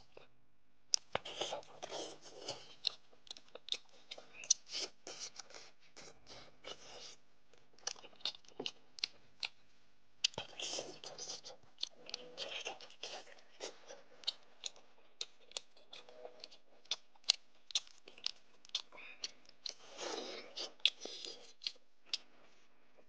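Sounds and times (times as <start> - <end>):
wet chewing mouth sounds: 1.0 - 7.2, 7.8 - 9.6, 10.2 - 22.3.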